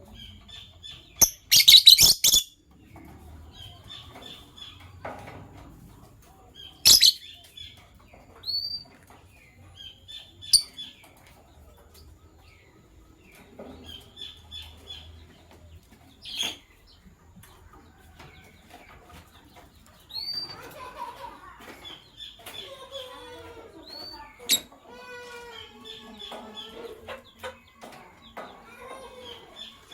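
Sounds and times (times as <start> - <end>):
lovebirds chirping: 0.0 - 29.9.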